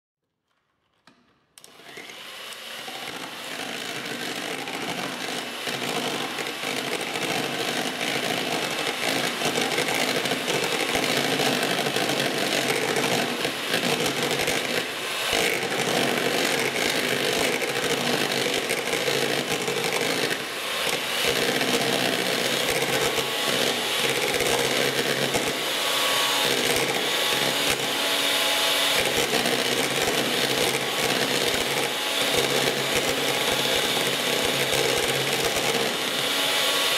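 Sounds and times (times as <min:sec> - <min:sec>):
electric hand mixer whirring: 0:01.6 - 0:36.9.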